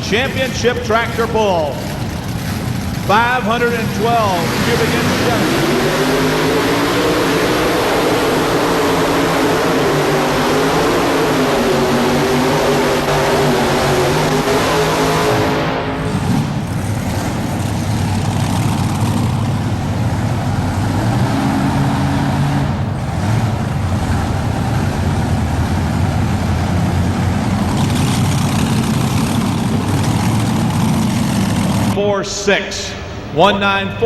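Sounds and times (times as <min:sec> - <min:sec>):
tractor engine at full throttle: 0:00.0 - 0:34.0.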